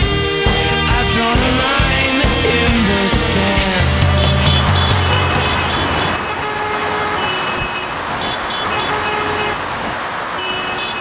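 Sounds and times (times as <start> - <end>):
car horn honks: 0.0 - 9.7, 10.4 - 11.0
highway traffic: 0.0 - 11.0.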